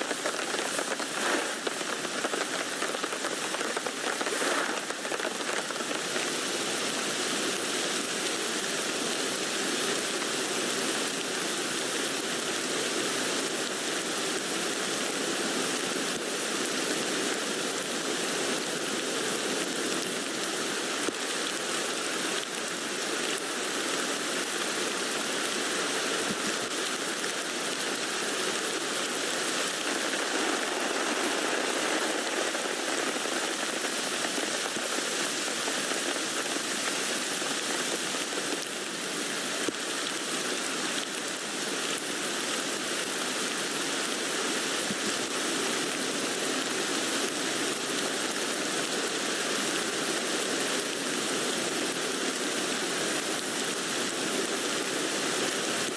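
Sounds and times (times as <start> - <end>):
rain falling on a tent: 0.0 - 55.9.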